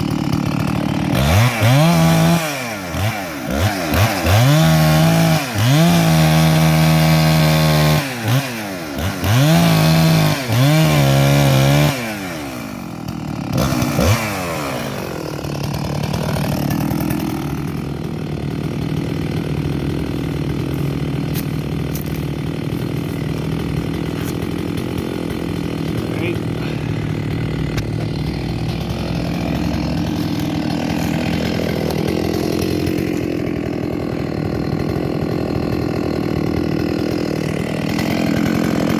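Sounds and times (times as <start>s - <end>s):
chainsaw cutting wood: 0.0s - 38.9s
chainsaw idling: 0.0s - 38.9s.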